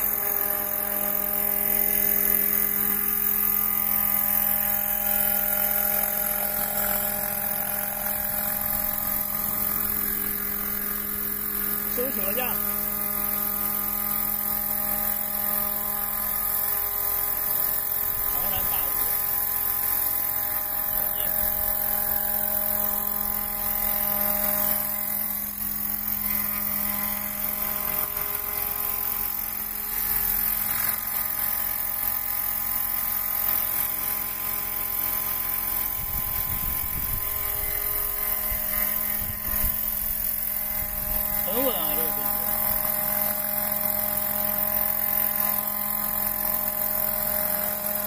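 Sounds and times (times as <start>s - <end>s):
rc helicopter whine: 0.0s - 48.0s.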